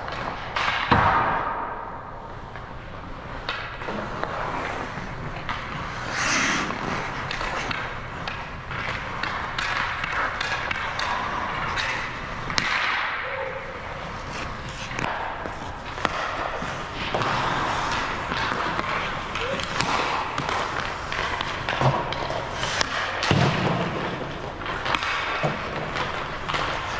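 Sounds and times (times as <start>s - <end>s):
pucks clacking off sticks: 0.0s - 1.8s, 2.5s - 26.9s
skates scraping on ice: 0.0s - 26.9s.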